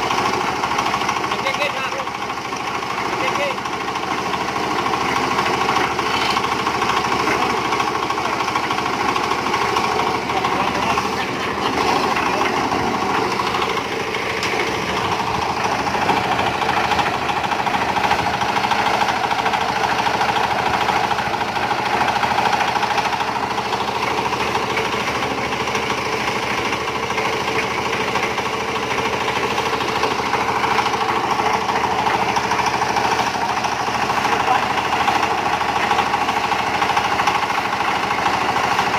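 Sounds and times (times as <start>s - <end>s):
concrete mixer running: 0.0s - 38.9s.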